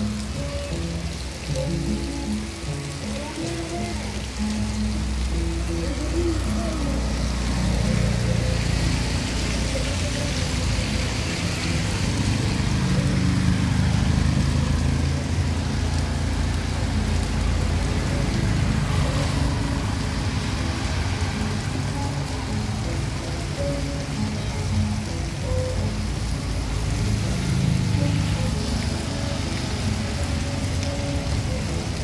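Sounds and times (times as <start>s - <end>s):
heavy rain: 0.0s - 32.0s
tyres hissing through water: 0.0s - 32.0s.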